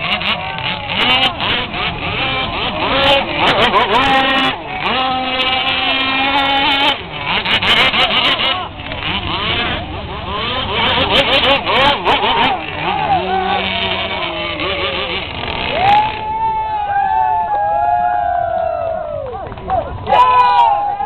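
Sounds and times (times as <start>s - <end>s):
model powerboat engine racing: 0.0s - 21.0s.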